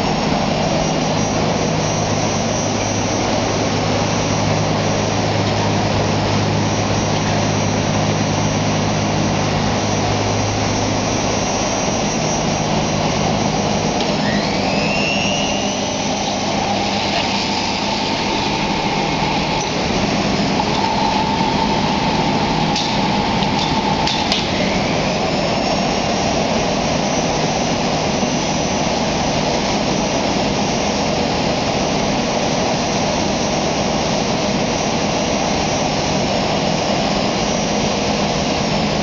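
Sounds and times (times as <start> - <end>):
faint high whine: 0.0 - 39.0
industrial cutting machine running: 0.0 - 39.0.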